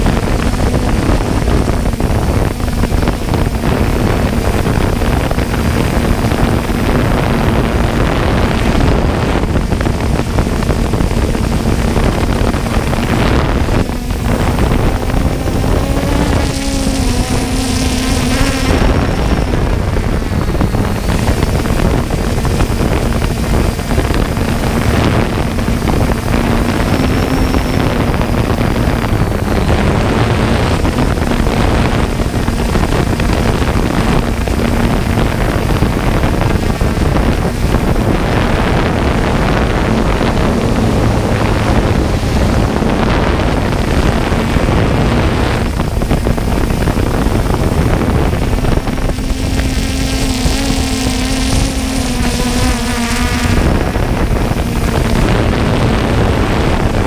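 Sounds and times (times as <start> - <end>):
drone motors and propellers: 0.0 - 57.0
wind on microphone: 0.0 - 57.0.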